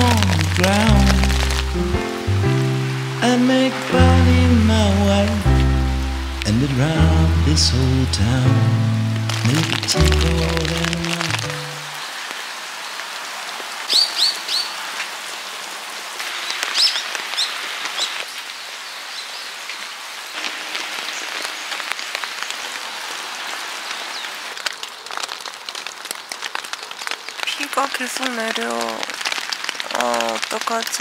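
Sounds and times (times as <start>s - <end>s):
raindrops pattering on tent: 0.0s - 31.0s
steady rain falling: 0.0s - 31.0s.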